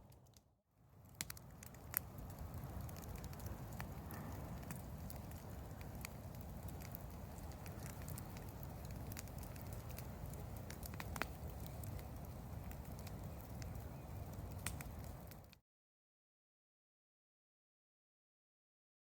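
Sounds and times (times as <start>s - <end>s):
campfire crackling and popping: 0.0s - 15.6s.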